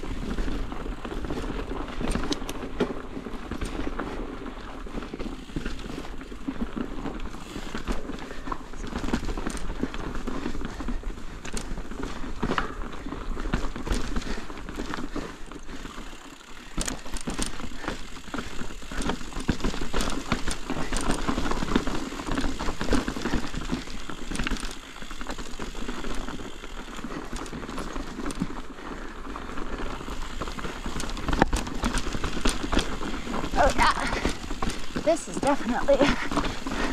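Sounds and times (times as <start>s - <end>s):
bike rattling: 0.0s - 36.9s
bike tyres crunching on rocks: 0.0s - 36.9s.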